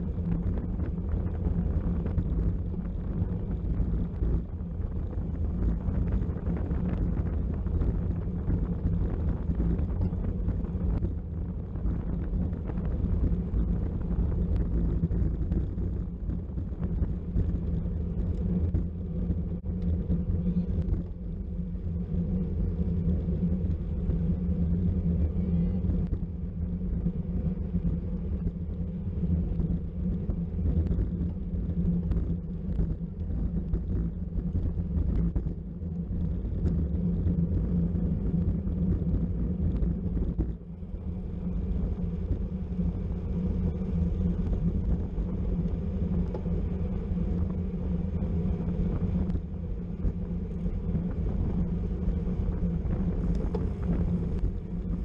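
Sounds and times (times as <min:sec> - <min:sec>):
tyre road rumble: 0:00.0 - 0:55.0
wind buffeting microphone: 0:00.0 - 0:55.0.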